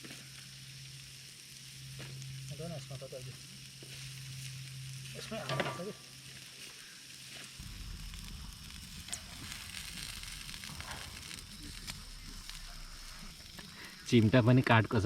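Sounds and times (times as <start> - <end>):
burning wood crackling: 0.0 - 15.0
ribs sizzling: 0.0 - 15.0.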